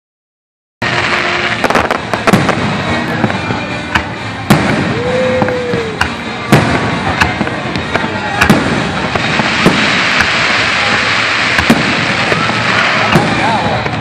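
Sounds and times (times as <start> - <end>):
firework crackle and rumble: 0.8 - 14.0
firework shells bursting: 0.8 - 14.0.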